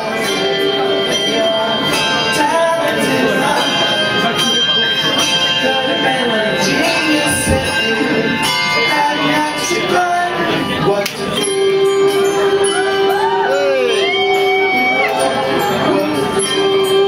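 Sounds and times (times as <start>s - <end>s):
handbells ringing a tune: 0.0s - 17.0s.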